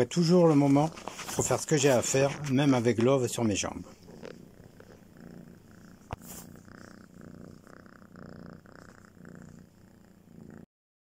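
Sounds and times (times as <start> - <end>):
cat purring: 0.0 - 10.7.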